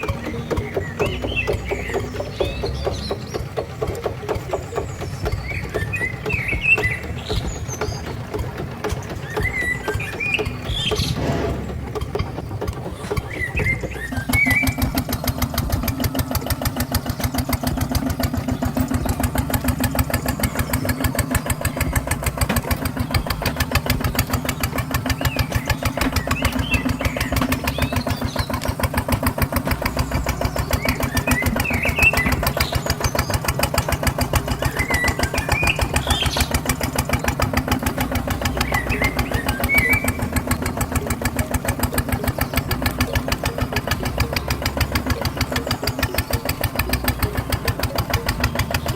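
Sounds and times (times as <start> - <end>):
high chirps: 0.0 - 48.9
small engine puttering: 0.0 - 48.9.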